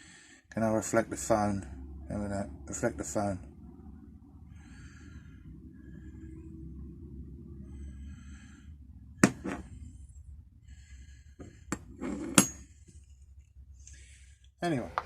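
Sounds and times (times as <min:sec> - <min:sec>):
low hum: 0:01.3 - 0:15.0.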